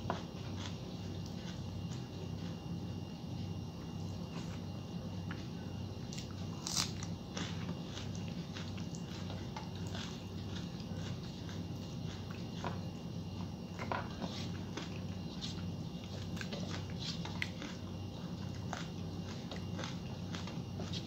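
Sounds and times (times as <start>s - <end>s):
person chewing: 0.1s - 2.6s, 6.1s - 21.0s.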